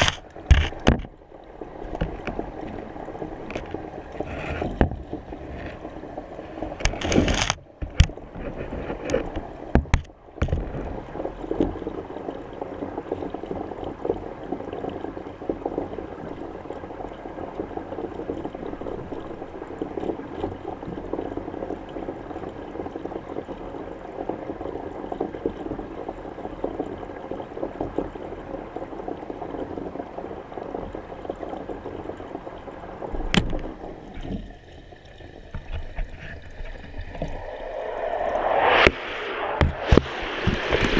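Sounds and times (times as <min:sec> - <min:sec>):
muffled underwater crackling: 0:00.0 - 0:40.9.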